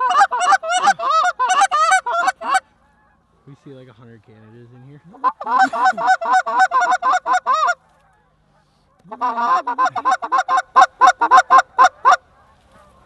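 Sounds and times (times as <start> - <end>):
goose call honking: 0.0 - 3.7, 4.3 - 13.0.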